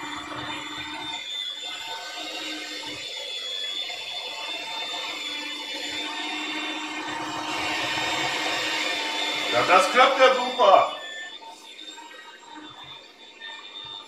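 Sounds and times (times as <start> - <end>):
electric hand mixer whine: 0.0 - 14.0.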